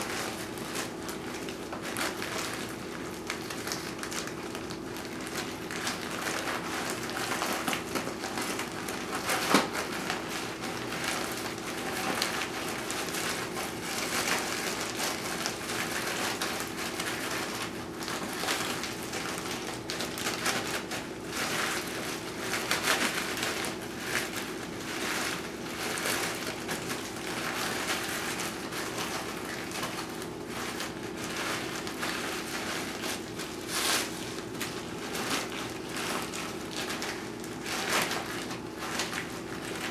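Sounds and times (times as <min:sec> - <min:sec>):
plastic bag crinkling: 0:00.0 - 0:39.9.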